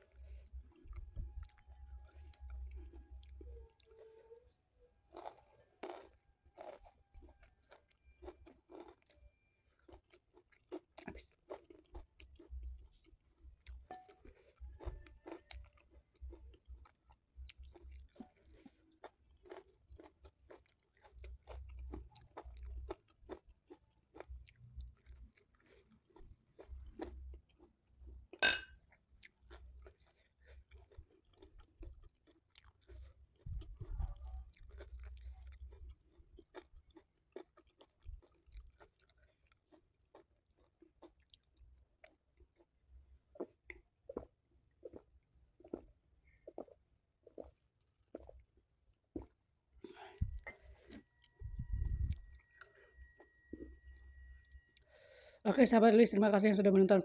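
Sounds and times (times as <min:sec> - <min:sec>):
person chewing: 0:00.0 - 0:04.4, 0:05.1 - 0:55.3
food crunching: 0:00.1 - 0:04.3, 0:05.1 - 0:55.2.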